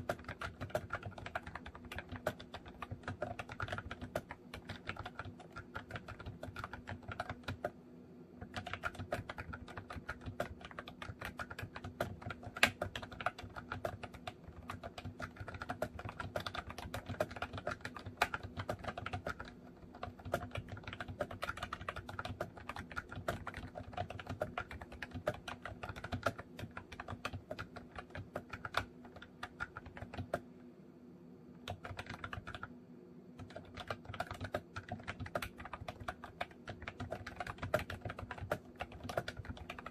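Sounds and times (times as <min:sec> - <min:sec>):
keyboard typing: 0:00.0 - 0:07.8, 0:08.4 - 0:30.5, 0:31.6 - 0:32.8, 0:33.4 - 0:39.9.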